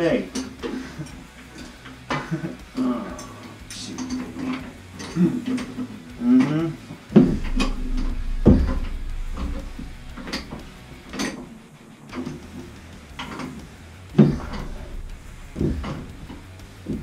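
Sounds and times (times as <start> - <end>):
steady low hum: 1.0 - 17.0.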